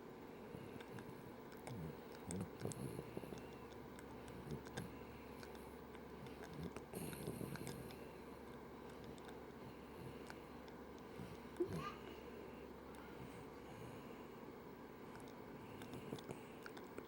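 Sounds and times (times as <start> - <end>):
puppy snoring softly: 0.5 - 14.4, 15.1 - 17.0.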